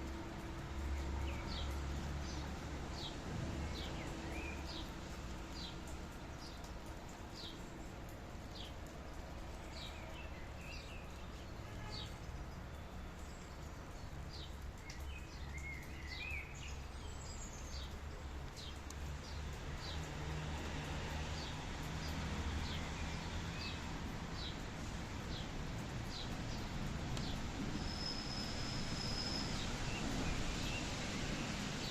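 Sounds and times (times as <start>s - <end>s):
rain hiss: 0.0s - 31.9s.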